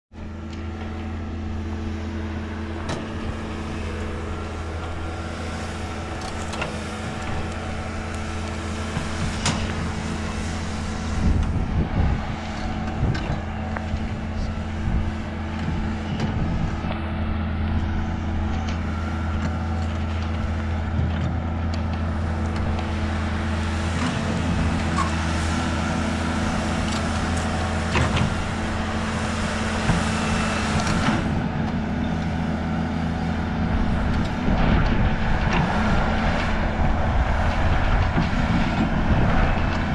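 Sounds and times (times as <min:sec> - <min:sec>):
diesel excavator engine running: 0:00.1 - 0:39.9.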